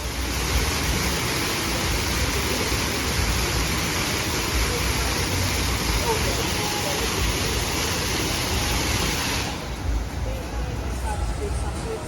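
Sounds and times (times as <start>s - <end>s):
fountain water splashing into pool: 0.0s - 9.8s.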